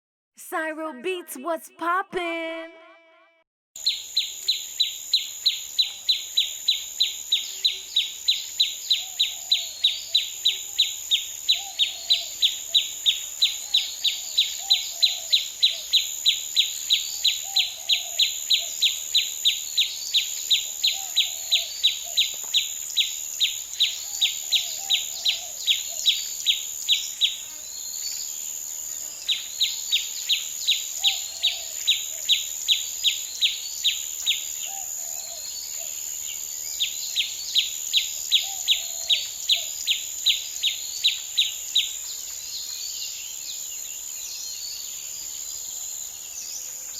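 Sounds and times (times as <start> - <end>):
insect drone: 3.8 - 46.9.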